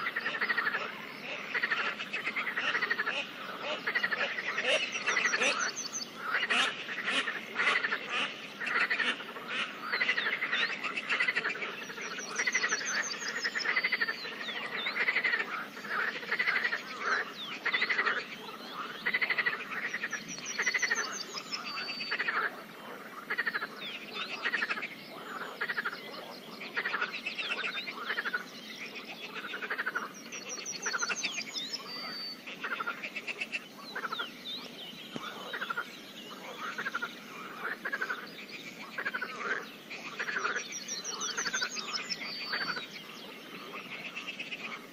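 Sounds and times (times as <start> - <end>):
frogs croaking chorus: 0.0 - 44.9.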